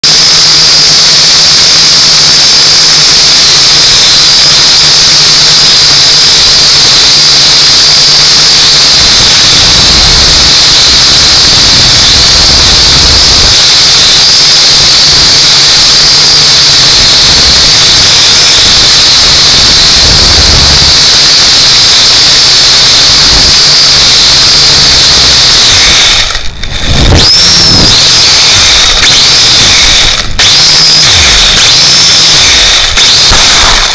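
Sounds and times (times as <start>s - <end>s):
quadcopter motors whining: 0.0s - 33.9s.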